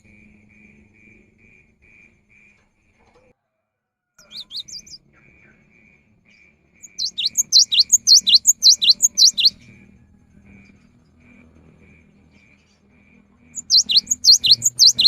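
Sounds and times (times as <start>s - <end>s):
bird singing: 0.0s - 3.2s, 4.2s - 15.0s.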